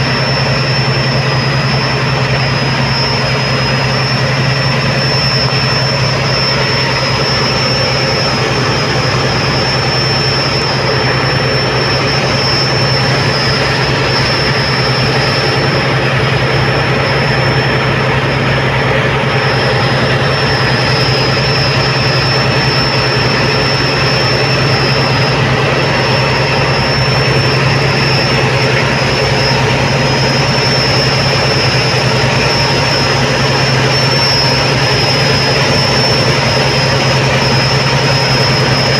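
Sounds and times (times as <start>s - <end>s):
diesel engine drone: 0.0s - 38.9s
high whine: 0.0s - 38.9s
rushing noise: 0.0s - 38.9s.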